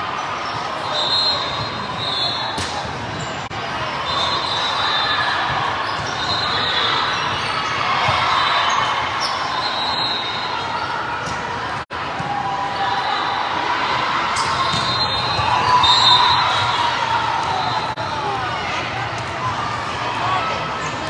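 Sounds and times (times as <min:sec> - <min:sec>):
echoing spectators chatter: 0:00.0 - 0:21.0.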